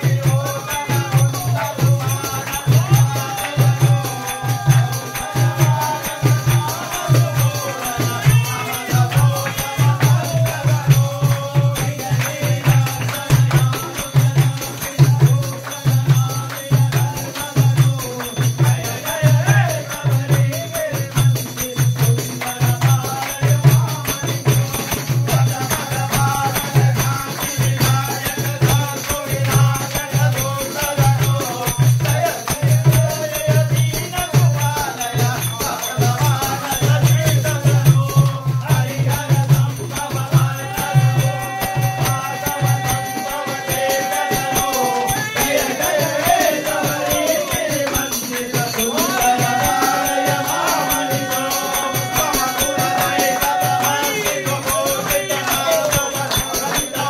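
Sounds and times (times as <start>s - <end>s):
men singing devotional song: 0.0s - 57.0s
steady drum beat: 0.0s - 57.0s
tambourine jingles: 0.0s - 57.0s.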